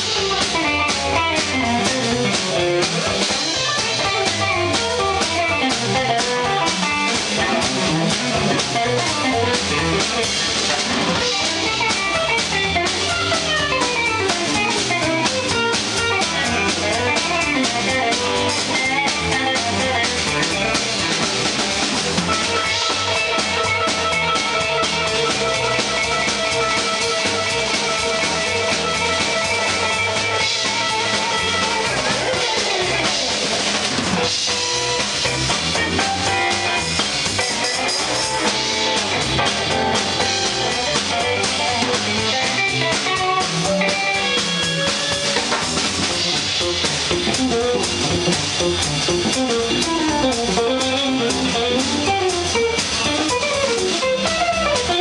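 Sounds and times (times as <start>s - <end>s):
electric guitar lead: 0.0s - 55.0s
keyboard: 0.0s - 55.0s
swinging drum kit: 0.0s - 55.0s.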